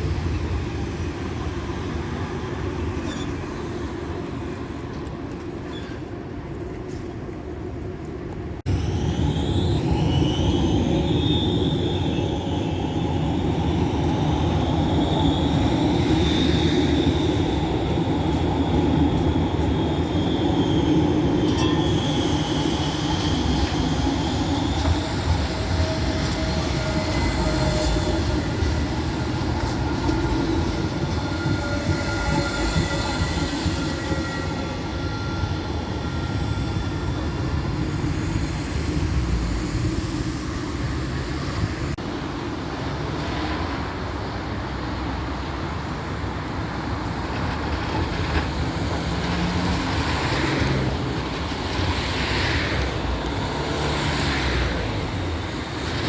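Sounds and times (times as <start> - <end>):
tram wheels squealing: 0.0 - 7.2, 8.7 - 42.0, 45.0 - 56.0
tram rumbling on rails: 0.0 - 56.0.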